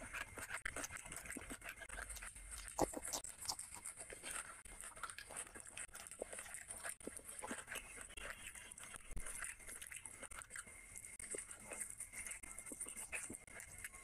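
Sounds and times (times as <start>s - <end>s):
chewing and wet mouth sounds: 0.0s - 14.0s.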